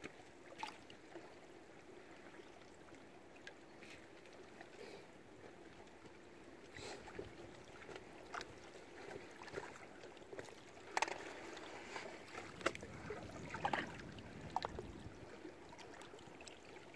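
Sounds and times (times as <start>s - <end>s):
water lapping against boats: 0.0s - 16.9s.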